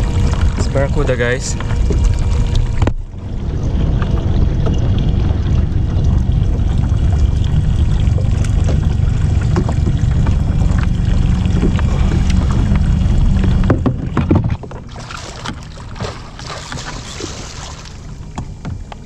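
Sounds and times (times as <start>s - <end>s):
low rumble: 0.0s - 19.0s
water splashing against hull: 0.0s - 19.0s.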